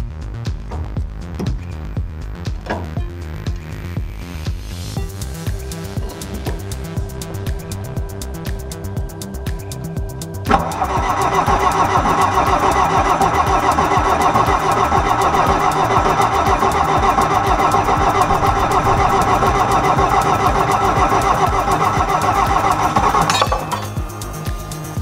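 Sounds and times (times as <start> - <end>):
loader engine running: 0.0 - 25.0.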